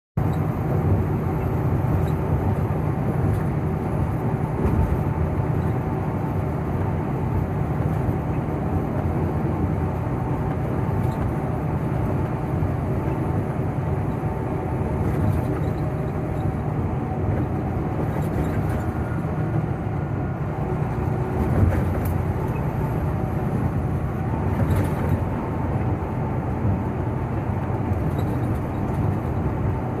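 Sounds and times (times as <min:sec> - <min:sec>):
vehicle engine and road noise: 0:00.2 - 0:30.0.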